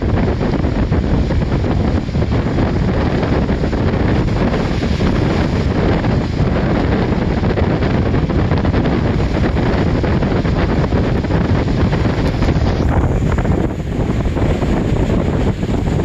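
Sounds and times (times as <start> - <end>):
sea surf: 0.0 - 16.0
wind buffeting microphone: 0.0 - 16.0.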